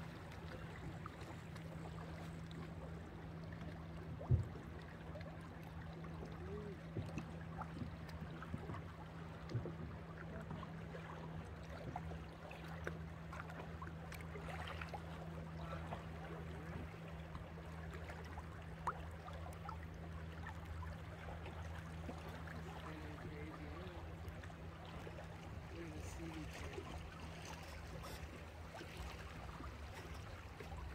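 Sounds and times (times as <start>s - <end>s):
boat engine humming: 0.0s - 30.9s
water splashing along hull: 0.0s - 30.9s.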